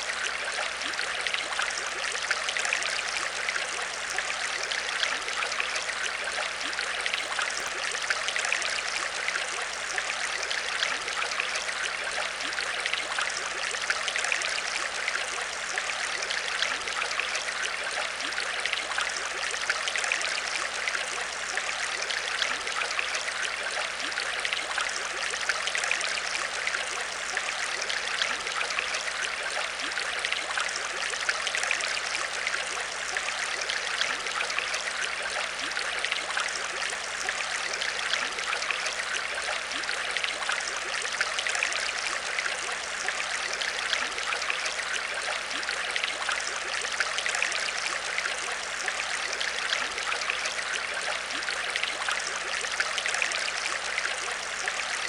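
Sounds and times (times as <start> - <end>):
aquarium water trickling and bubbling: 0.0 - 55.0.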